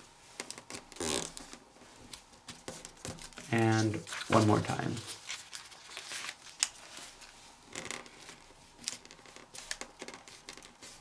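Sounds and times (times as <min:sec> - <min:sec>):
paper rustling and crinkling: 0:00.4 - 0:11.0.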